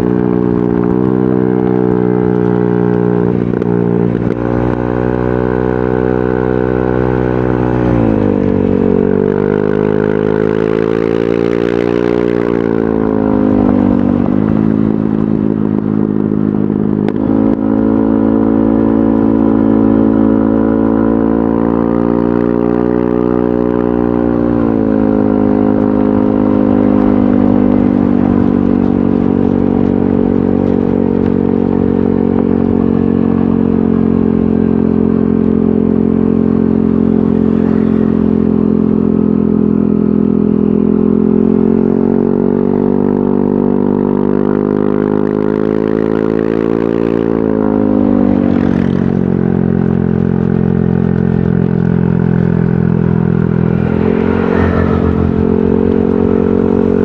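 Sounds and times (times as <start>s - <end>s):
scooter engine exhaust: 0.0s - 57.0s.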